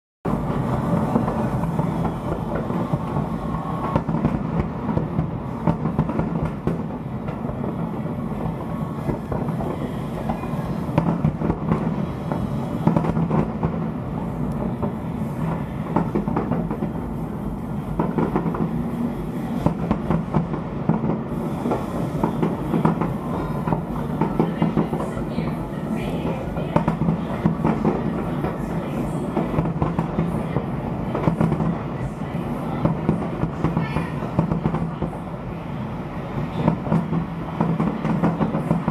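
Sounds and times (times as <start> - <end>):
fireworks popping and crackling: 0.3 - 25.2, 26.0 - 35.2, 36.6 - 38.9.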